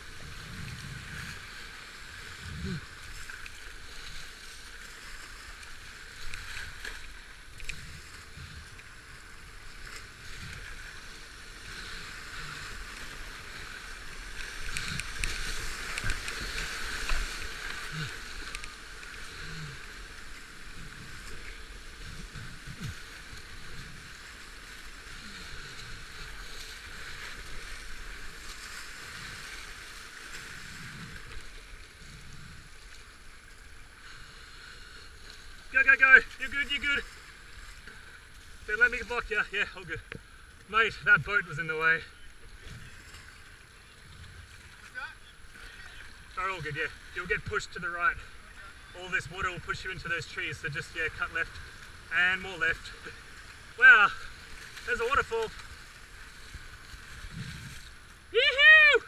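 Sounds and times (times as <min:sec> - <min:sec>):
rushing whitewater: 0:00.0 - 0:43.9, 0:44.5 - 0:59.0.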